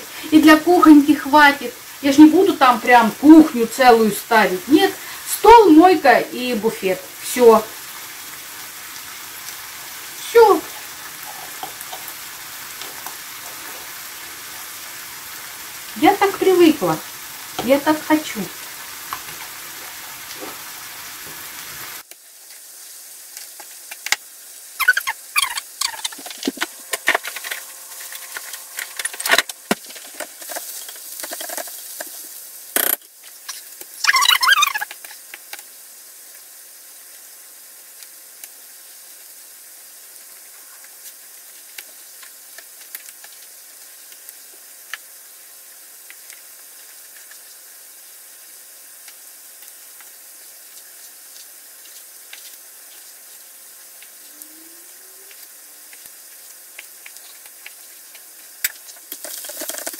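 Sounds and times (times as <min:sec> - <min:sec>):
food sizzling on stove: 0:00.0 - 0:59.9.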